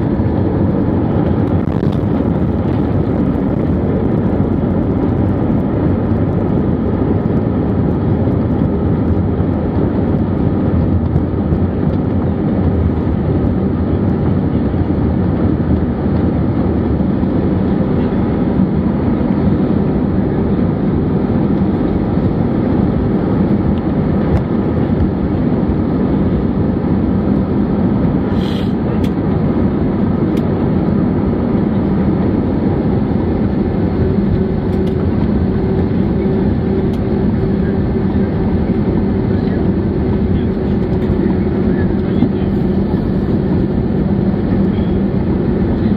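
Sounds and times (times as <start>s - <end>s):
airplane engines at low power: 0.0s - 45.9s
wheels rumbling over taxiway: 0.0s - 45.9s.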